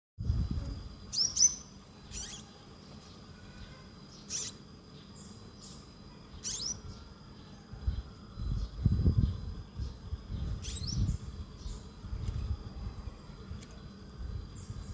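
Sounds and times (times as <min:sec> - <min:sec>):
songbird chirps: 0:00.2 - 0:14.9.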